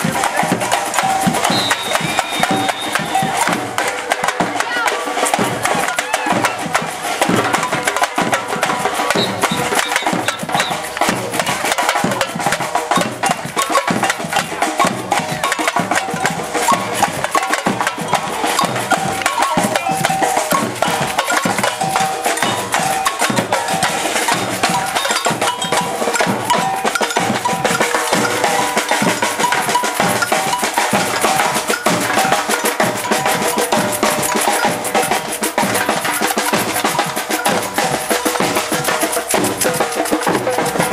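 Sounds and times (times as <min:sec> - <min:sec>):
samba percussion band: 0:00.0 - 0:40.9.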